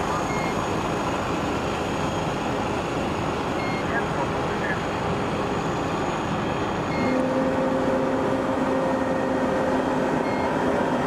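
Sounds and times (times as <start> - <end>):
car engine and road rumble: 0.0 - 11.0
engine drone: 0.0 - 11.0.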